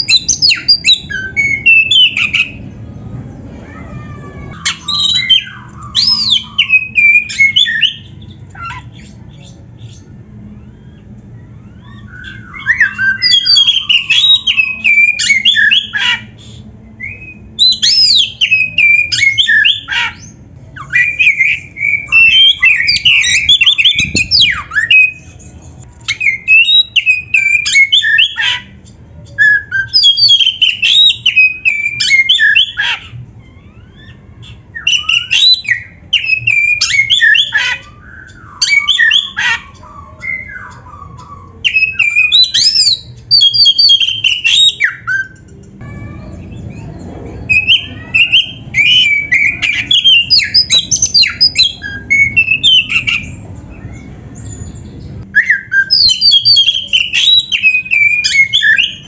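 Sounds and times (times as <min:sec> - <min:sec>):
bird singing whistled notes: 0:00.0 - 0:02.6, 0:04.6 - 0:28.6, 0:29.2 - 0:32.8, 0:33.5 - 0:45.6, 0:46.5 - 0:59.0.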